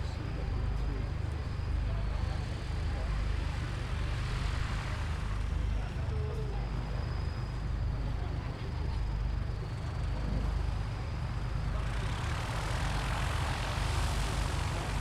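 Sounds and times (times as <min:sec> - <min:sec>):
propeller aircraft engine drone: 0:00.0 - 0:15.0
rushing noise of approaching aircraft: 0:00.0 - 0:15.0.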